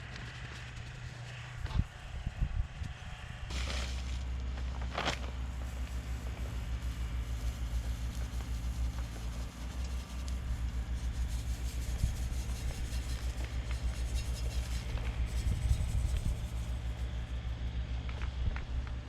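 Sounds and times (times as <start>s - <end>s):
engine running with pulsing hum: 0.0s - 19.0s.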